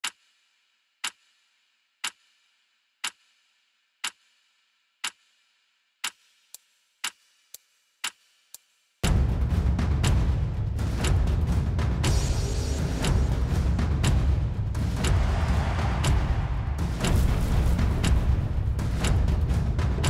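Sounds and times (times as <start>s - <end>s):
clock ticking: 0.0s - 0.4s, 1.0s - 1.4s, 2.0s - 3.4s, 4.0s - 4.4s, 5.0s - 5.3s, 6.0s - 20.0s.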